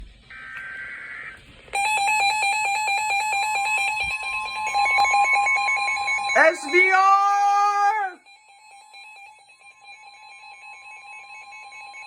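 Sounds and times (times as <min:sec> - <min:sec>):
rapid electronic beeping alarm: 0:00.3 - 0:12.0.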